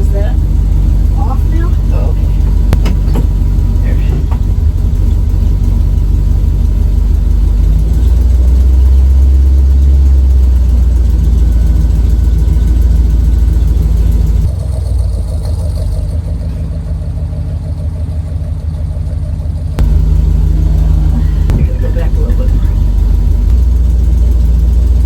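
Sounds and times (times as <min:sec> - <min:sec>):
truck engine revving and idling: 0:00.0 - 0:25.0.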